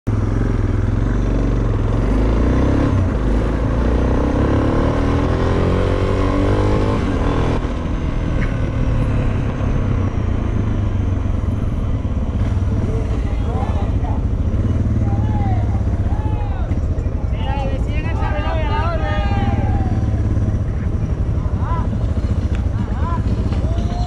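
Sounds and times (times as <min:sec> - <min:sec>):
motorcycle engine accelerating: 0:00.1 - 0:24.0.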